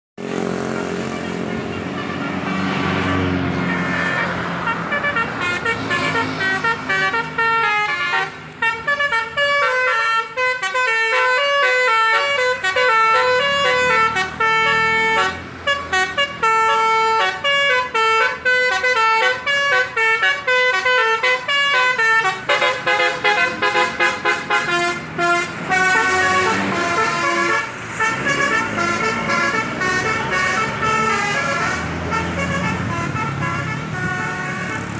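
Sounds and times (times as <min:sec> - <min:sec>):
multi-tone bus horn tune: 0:00.2 - 0:34.9.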